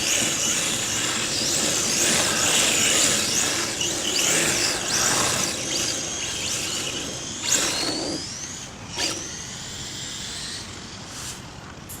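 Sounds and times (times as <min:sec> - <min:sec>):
electric motor whining: 0:00.0 - 0:11.4.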